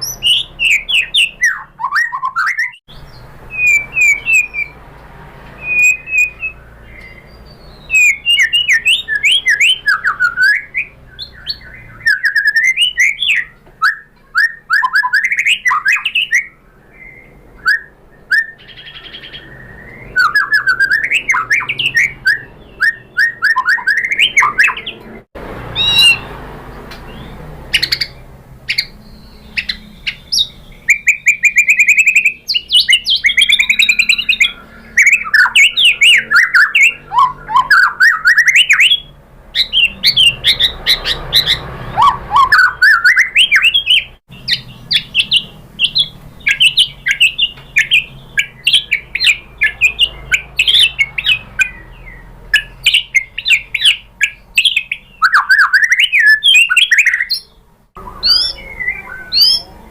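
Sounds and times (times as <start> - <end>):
bird singing whistled song: 0.0 - 4.8, 5.5 - 26.3, 27.0 - 59.9.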